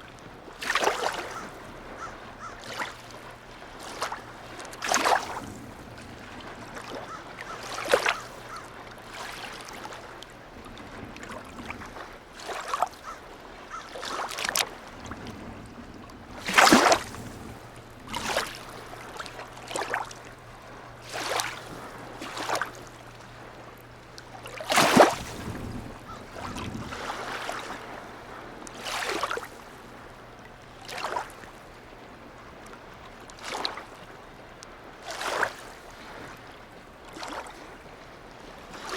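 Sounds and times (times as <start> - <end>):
waves lapping against quay: 0.0 - 38.9.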